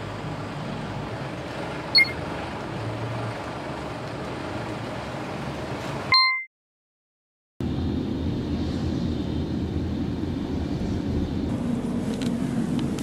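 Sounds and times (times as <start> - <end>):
car road and engine rumble: 0.0 - 6.2, 7.6 - 13.0.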